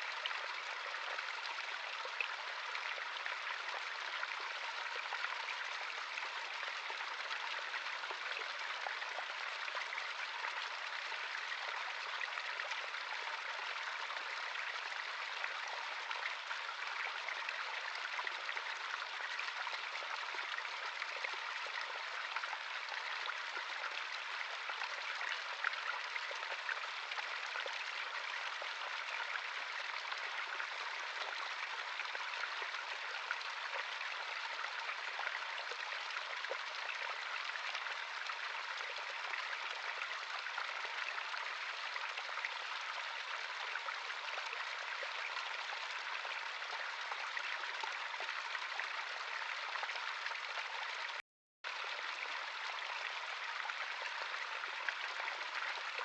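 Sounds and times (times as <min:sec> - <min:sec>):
stream babbling: 0:00.0 - 0:56.0
water splashes and drips: 0:00.0 - 0:56.0.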